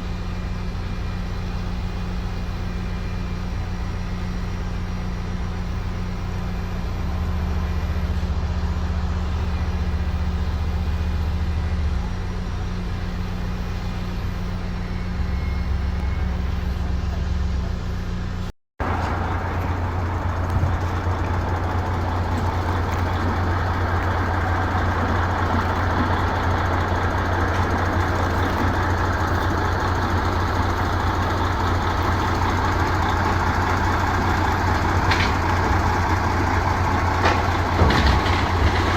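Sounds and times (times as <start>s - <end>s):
construction site noise: 0.0s - 38.9s
heavy machinery engine humming: 0.0s - 38.9s.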